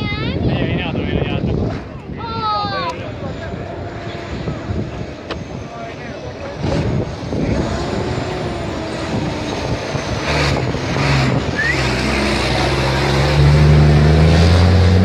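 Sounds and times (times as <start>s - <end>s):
truck engine approaching: 0.0s - 15.0s.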